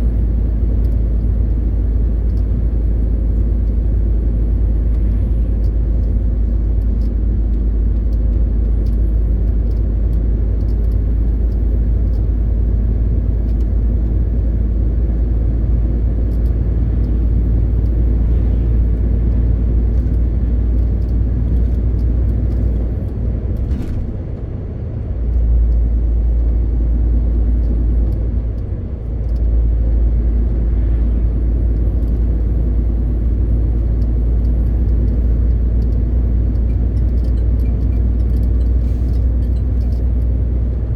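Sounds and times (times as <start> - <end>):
diesel truck engine droning: 0.0 - 40.9
road noise: 0.0 - 40.9.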